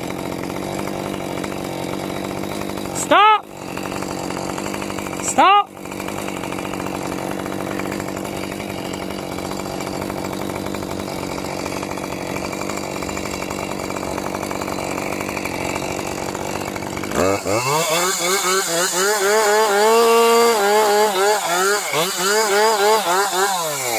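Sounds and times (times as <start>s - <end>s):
chainsaw engine revving: 0.0s - 23.9s.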